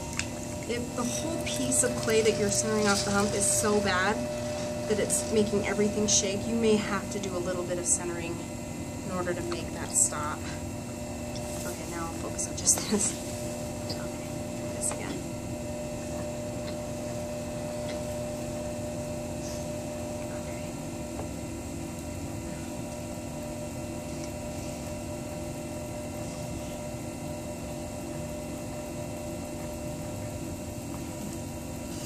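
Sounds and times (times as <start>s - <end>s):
potter's wheel motor hum: 0.0s - 32.0s.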